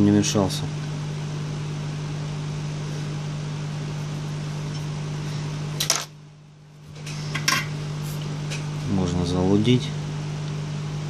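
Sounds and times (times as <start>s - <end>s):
electrical fan hum: 0.0s - 11.0s
low mains buzz: 0.0s - 11.0s.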